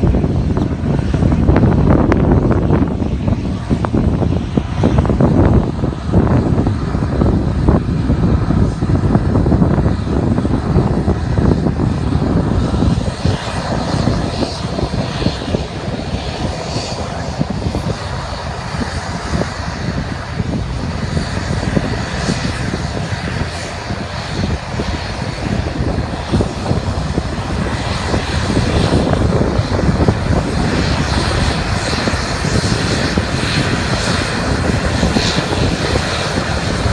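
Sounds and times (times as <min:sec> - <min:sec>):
airplane engines roaring: 0:00.0 - 0:36.9.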